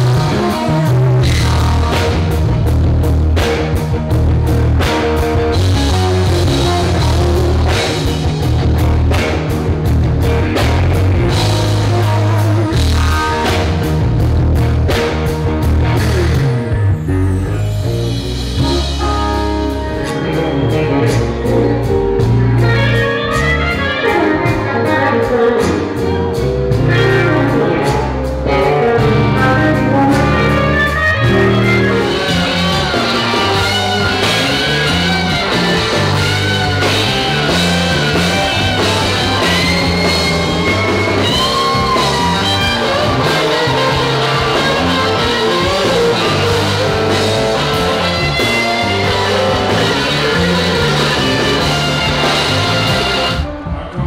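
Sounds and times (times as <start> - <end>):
blues-rock band music: 0.0 - 54.0
lead electric guitar: 0.0 - 54.0.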